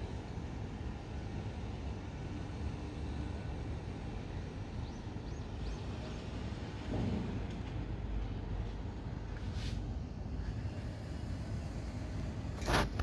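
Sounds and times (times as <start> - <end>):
distant city traffic: 0.0 - 13.0.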